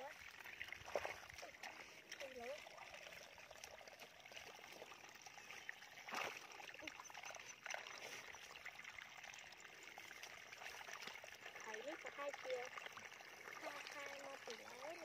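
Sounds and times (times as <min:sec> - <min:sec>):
shallow water trickling and splashing: 0:00.0 - 0:15.0.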